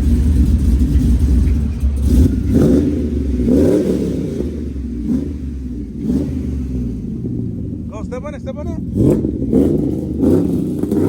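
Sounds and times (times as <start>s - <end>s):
truck engine idling and revving: 0.0s - 11.0s.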